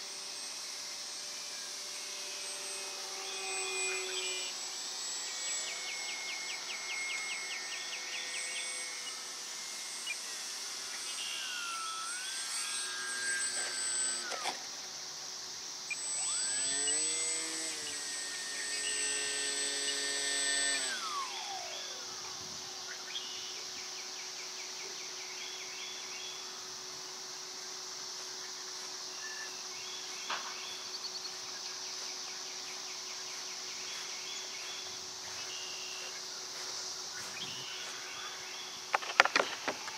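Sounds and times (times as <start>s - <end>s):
insects hissing: 0.0s - 39.9s
model plane motor whining: 0.0s - 39.9s.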